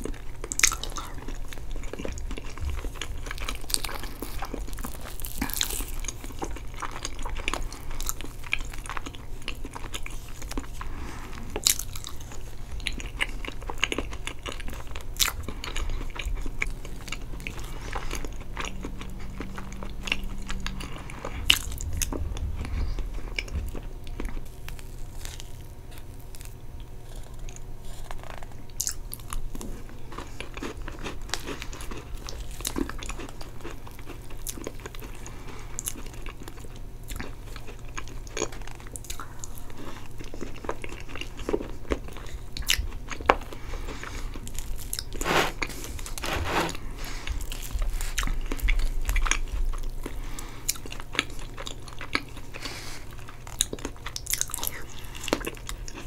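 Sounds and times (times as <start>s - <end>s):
person chewing cake: 0.0s - 56.0s.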